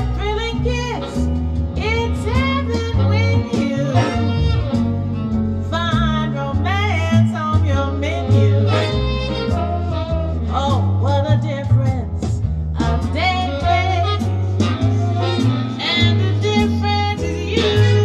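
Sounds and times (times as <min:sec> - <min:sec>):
instrumental jazz ballad over loudspeakers: 0:00.0 - 0:18.0.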